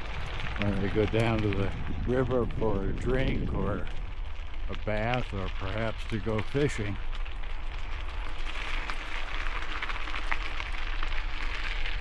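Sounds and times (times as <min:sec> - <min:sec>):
bicycle tyres crunching gravel: 0:00.0 - 0:12.0
wind rumble on microphone: 0:00.0 - 0:12.0.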